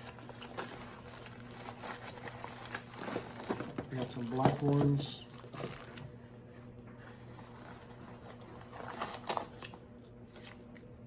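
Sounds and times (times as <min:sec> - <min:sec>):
packaging rustling: 0:00.0 - 0:06.2, 0:07.1 - 0:10.6
steady low hum: 0:00.0 - 0:11.0.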